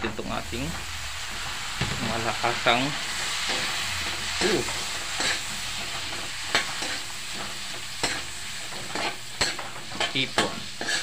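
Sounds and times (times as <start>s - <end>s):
shrimp sizzling in a frying pan: 0.0s - 11.0s.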